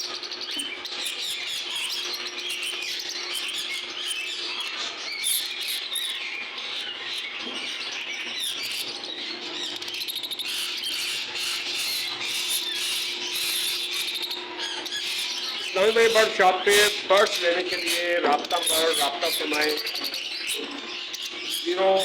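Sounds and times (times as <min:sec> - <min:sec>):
lovebirds chattering and chirping: 0:00.0 - 0:22.0.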